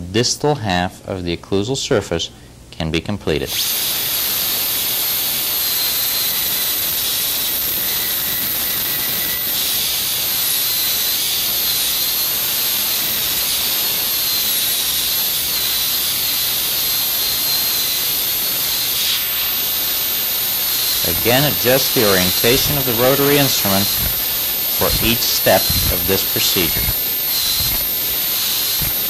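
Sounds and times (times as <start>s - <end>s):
dental drill high-pitched whine: 3.4s - 29.0s.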